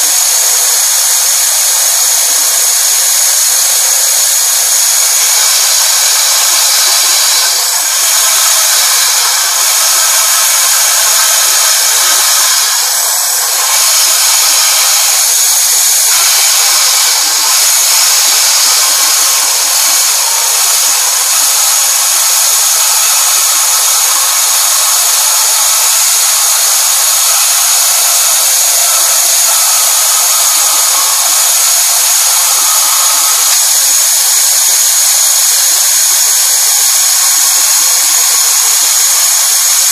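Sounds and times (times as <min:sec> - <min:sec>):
band saw whine: 0:00.0 - 0:39.9.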